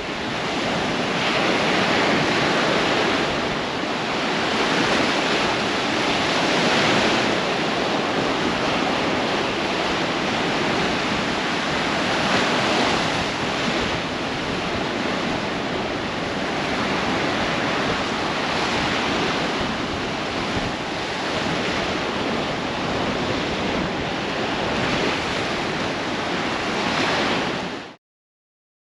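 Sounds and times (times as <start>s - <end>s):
waves washing on shore: 0.0s - 28.0s.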